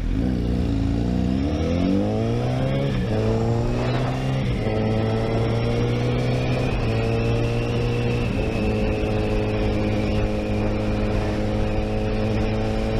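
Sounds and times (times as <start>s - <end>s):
motorcycle engine running: 0.0s - 12.9s
wind rush: 2.0s - 12.9s.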